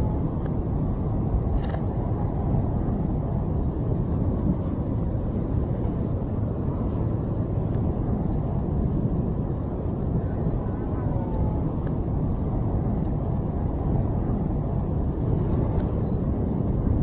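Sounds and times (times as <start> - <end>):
tornado winds roaring: 0.0 - 17.0.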